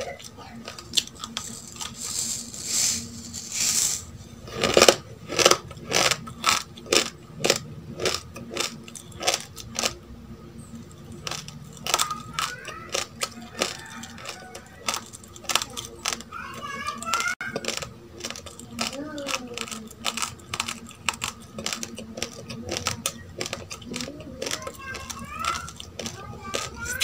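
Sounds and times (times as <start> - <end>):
chewing uncooked rice: 0.0 - 10.0, 10.9 - 27.0.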